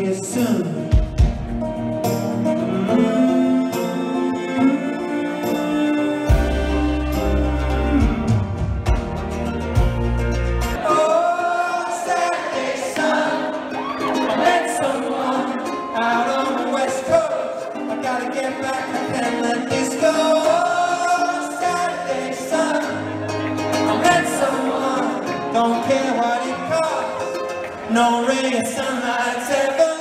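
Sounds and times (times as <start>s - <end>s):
person singing with ukulele: 2.0s - 30.0s.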